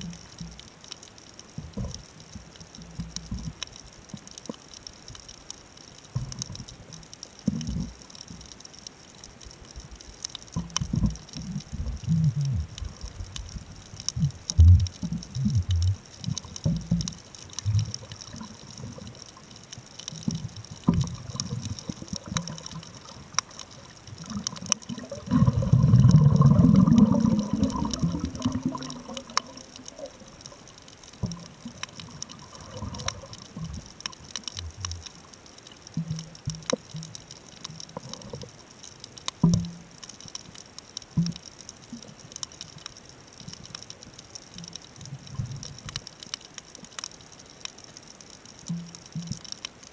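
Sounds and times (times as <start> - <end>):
faint hiss: 0.0 - 49.9
gurgling rush of water: 0.0 - 49.9
underwater clicks and crackles: 0.0 - 49.9.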